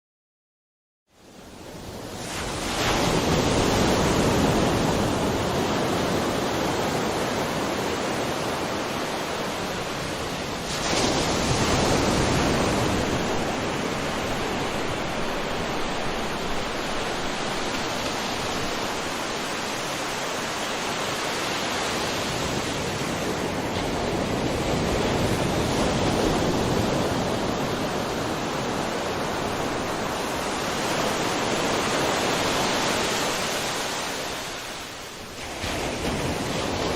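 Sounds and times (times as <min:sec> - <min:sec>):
ocean waves on shore: 0:01.2 - 0:36.9.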